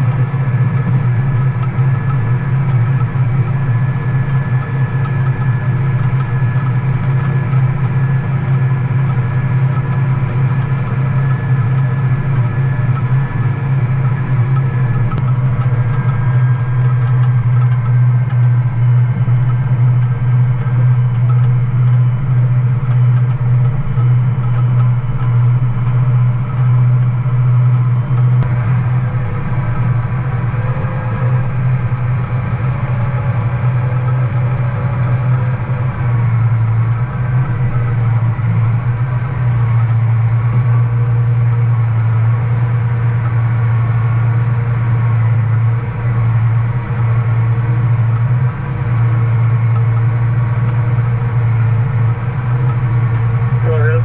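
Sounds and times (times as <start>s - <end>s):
harvest machinery engine drone: 0.0s - 54.0s.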